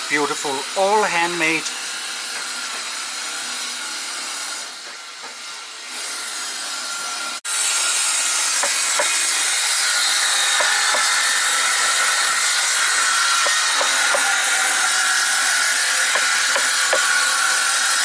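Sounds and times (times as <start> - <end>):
saw cutting wood: 0.0 - 18.0.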